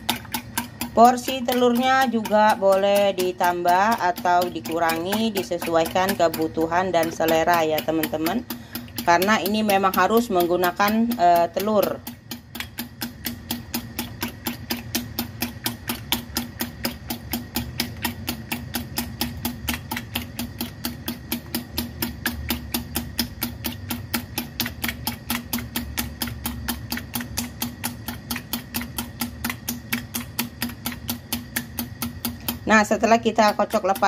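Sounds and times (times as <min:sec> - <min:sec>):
fork beating eggs in bowl: 0:00.0 - 0:34.0.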